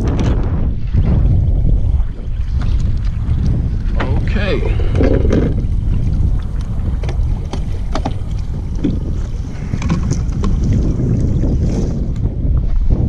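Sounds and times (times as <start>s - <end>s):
waves slapping against hull: 0.0s - 13.0s
wind buffeting microphone: 0.0s - 13.0s.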